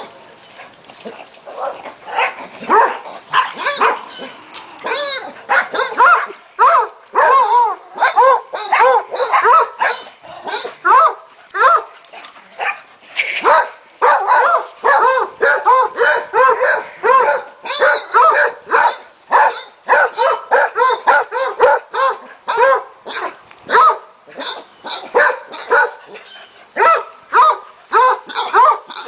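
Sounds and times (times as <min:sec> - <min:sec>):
dogs barking: 0:00.9 - 0:29.0.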